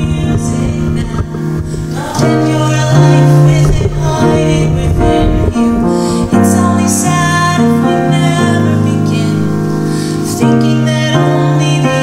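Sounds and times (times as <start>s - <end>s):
grand piano: 0.0s - 12.0s.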